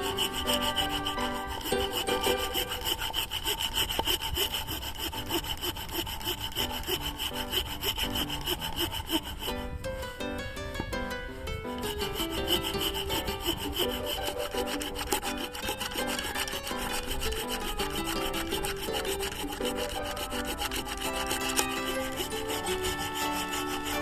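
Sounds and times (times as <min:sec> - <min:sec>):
stepped melody: 0:00.0 - 0:03.3, 0:06.4 - 0:24.0
hand saw cutting wood: 0:00.0 - 0:09.8, 0:11.7 - 0:24.0.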